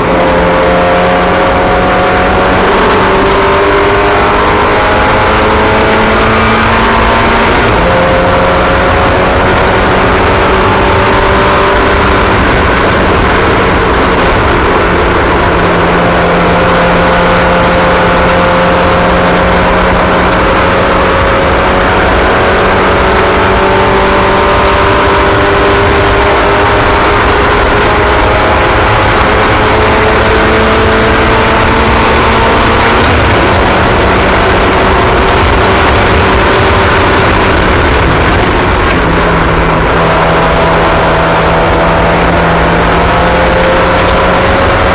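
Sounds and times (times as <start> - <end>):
small racing engines running: 0.0 - 44.9.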